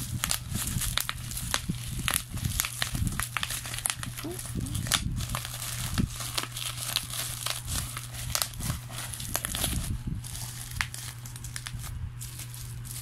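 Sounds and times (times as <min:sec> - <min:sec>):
bubble wrap crinkling and crackling: 0:00.0 - 0:13.0.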